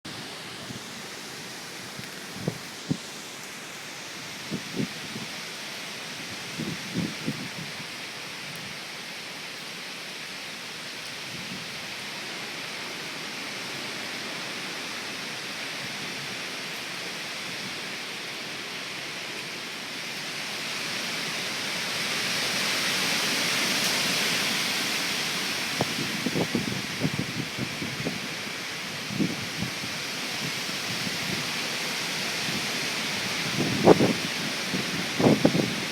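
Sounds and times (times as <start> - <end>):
wind and rain hissing: 0.1 - 35.9.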